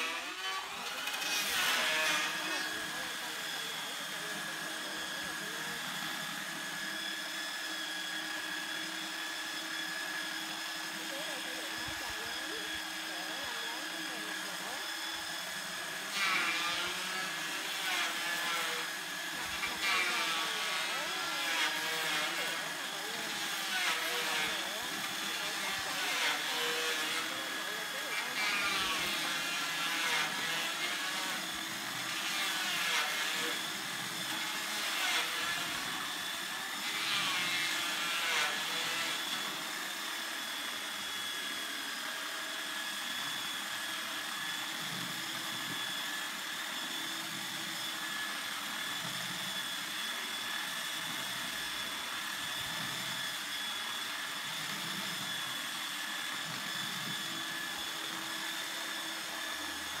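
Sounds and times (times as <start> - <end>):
power sander on wood: 0.0 - 60.0.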